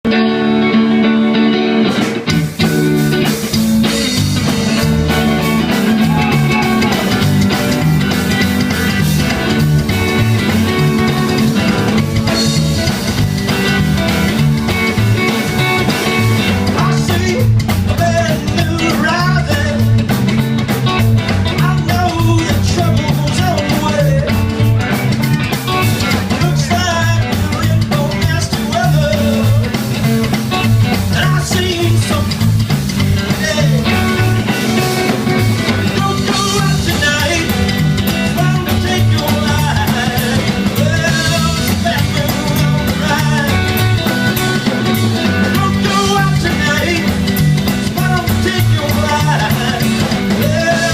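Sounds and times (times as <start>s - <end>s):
bass line: 0.0s - 50.9s
drum kit: 0.0s - 50.9s
electric guitar: 0.0s - 50.9s.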